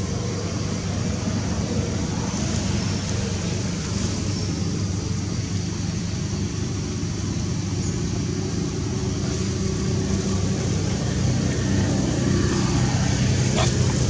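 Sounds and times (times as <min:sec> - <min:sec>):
engine humming with faint hiss: 0:00.0 - 0:14.0.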